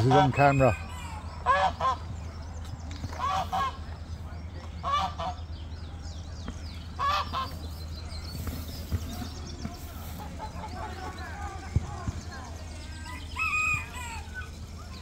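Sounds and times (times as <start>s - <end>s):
geese honking: 0.0s - 2.2s, 3.1s - 4.0s, 4.8s - 5.7s, 6.9s - 15.0s.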